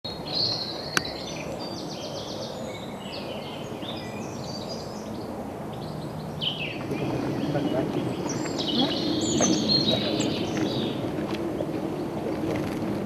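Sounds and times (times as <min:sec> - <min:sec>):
songbirds singing: 0:00.1 - 0:13.0
steady background noise: 0:00.1 - 0:13.0.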